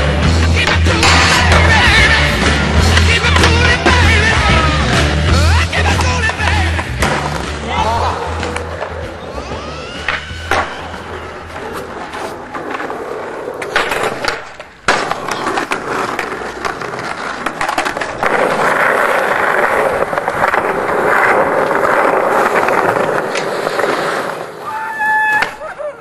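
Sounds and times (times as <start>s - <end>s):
skateboard clacks: 0.0s - 4.8s, 5.4s - 9.4s, 10.0s - 24.6s
skateboard wheels rolling on concrete: 0.0s - 26.0s.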